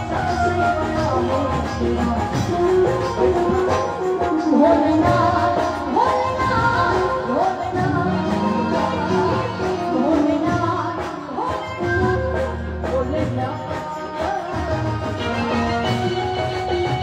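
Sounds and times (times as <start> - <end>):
dhol drum: 0.0 - 17.0
keyboard accompaniment: 0.0 - 17.0
woman singing: 0.0 - 17.0.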